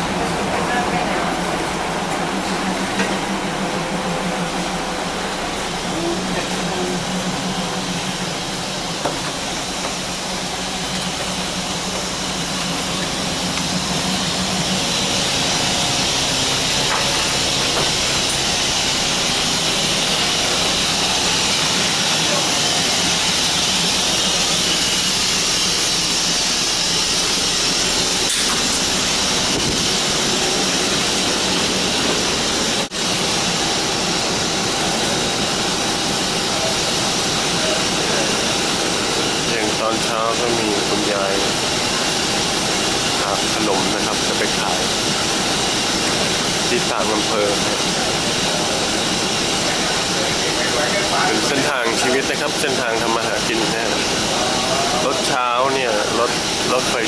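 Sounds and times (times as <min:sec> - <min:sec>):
train machinery hiss and hum: 0:00.0 - 0:57.0.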